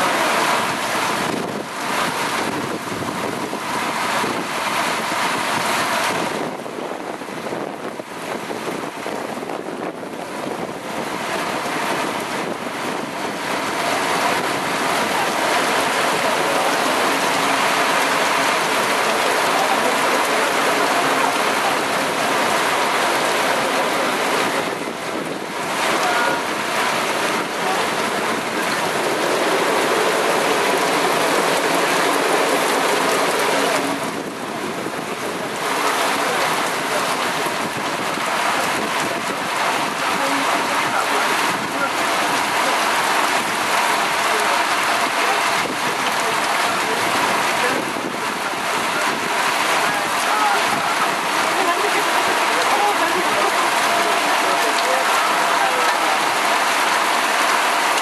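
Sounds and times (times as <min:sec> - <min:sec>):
gusting wind: 0:00.0 - 0:58.0
heavy rain pouring: 0:00.0 - 0:58.0.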